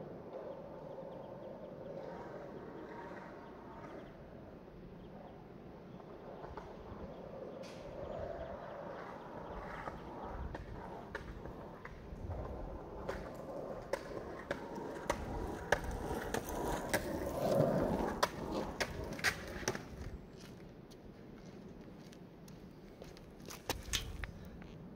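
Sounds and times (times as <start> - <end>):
skateboard wheels rolling on asphalt: 0.0 - 24.9.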